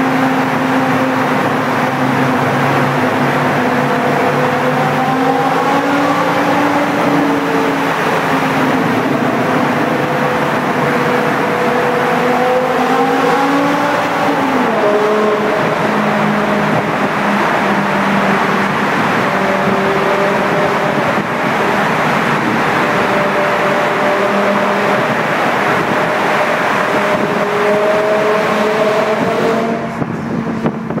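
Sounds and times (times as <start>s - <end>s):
car engine running hard: 0.0s - 31.0s.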